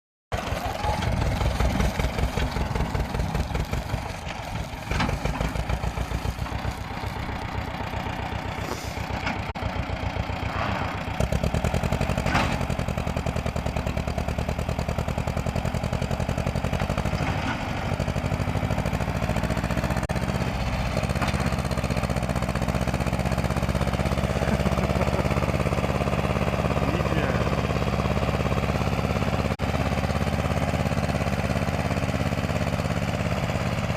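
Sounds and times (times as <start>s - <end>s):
tractor diesel engine chugging: 0.3s - 33.9s.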